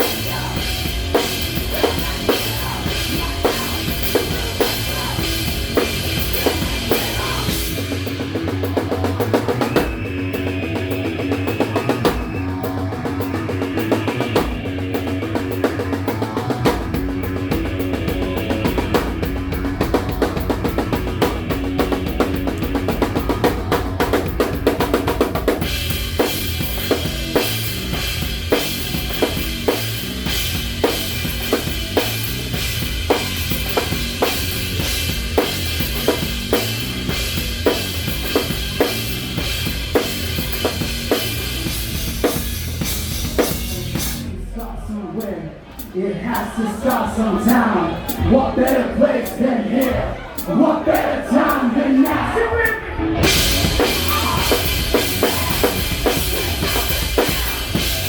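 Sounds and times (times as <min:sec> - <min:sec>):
live rock band playing: 0:00.0 - 0:44.3, 0:46.7 - 0:58.0
bass drum and snare: 0:00.0 - 0:51.6, 0:53.2 - 0:58.0.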